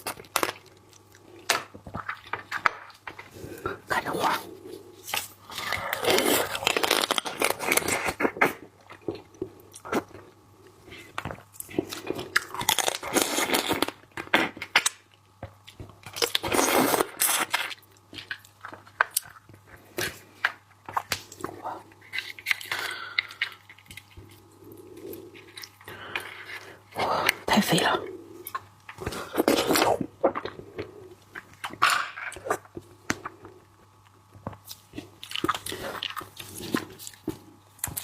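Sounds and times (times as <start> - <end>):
crunching and chewing seafood: 0.0 - 3.8, 4.6 - 27.5, 28.4 - 38.0.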